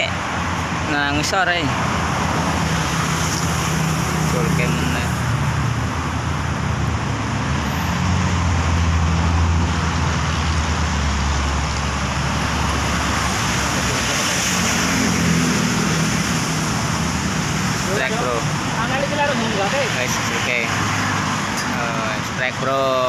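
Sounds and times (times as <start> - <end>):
road traffic noise: 0.0 - 23.0
vehicle rumbling past: 1.7 - 22.2.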